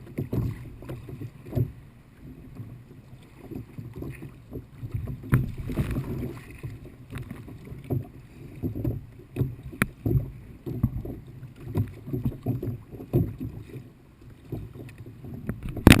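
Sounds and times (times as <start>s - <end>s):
paddle splashes: 0.0s - 16.0s
water slapping against a kayak: 0.0s - 16.0s.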